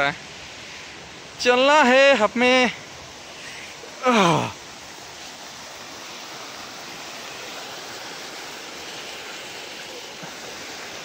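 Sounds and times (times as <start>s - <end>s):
rushing stream water: 0.0s - 11.0s
rain falling: 1.1s - 11.0s.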